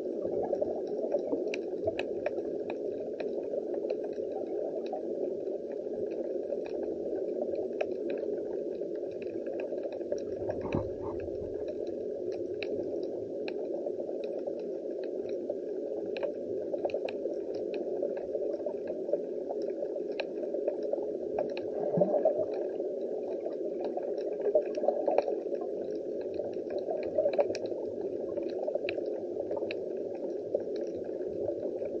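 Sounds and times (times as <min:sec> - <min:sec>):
faint clicks and crackles: 0:00.0 - 0:32.0
muffled underwater rush: 0:00.0 - 0:32.0.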